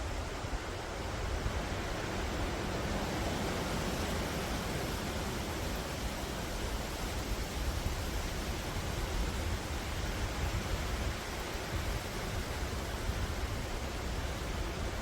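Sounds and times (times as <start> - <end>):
wind rumble on microphone: 0.0 - 15.0
wind rushing through trees: 0.0 - 15.0.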